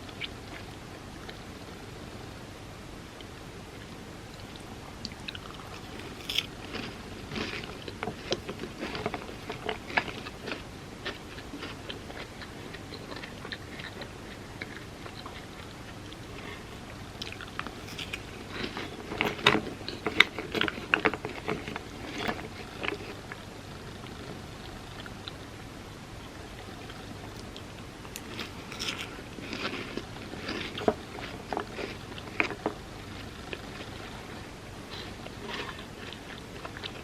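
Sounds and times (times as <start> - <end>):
crunching wafer: 4.4 - 25.4, 26.7 - 37.0.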